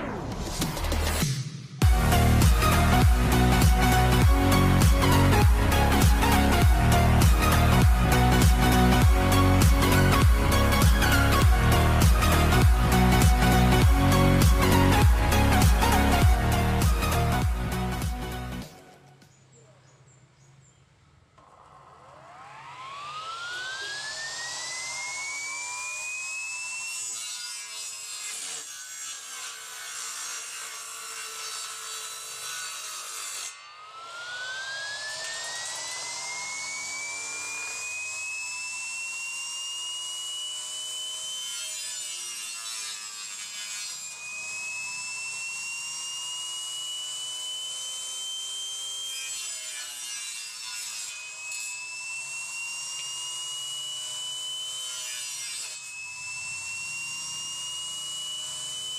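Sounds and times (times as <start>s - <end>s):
saw blade whining: 0.0s - 19.7s, 21.4s - 58.9s.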